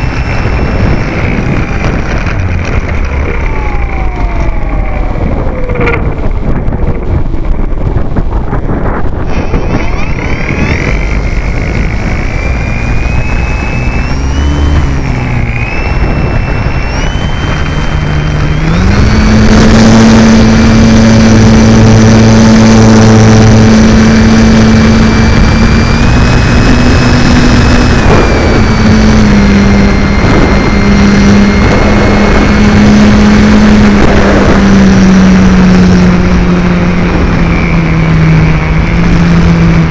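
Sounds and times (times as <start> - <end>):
electric motor and propeller whine: 0.0 - 39.9
wind rushing over microphone: 0.0 - 39.9.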